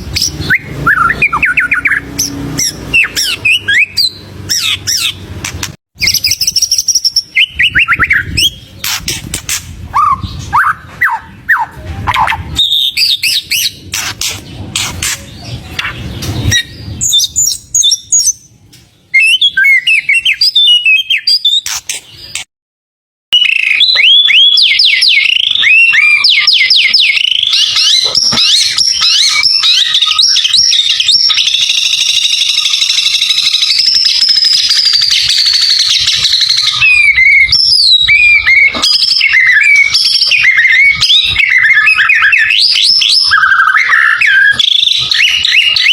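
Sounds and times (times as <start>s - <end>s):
bird singing whistles and trills: 0.0s - 5.2s, 6.0s - 18.5s, 19.1s - 22.5s, 23.4s - 45.9s.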